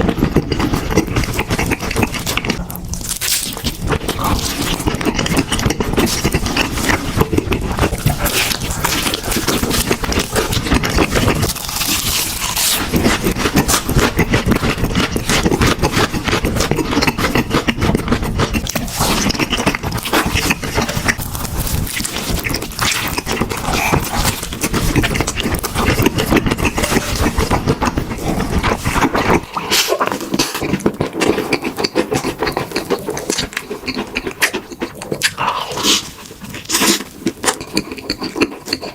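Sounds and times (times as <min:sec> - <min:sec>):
crunching food: 0:00.0 - 0:38.9
person chewing: 0:00.0 - 0:38.9
wet mouth clicks: 0:00.4 - 0:38.9.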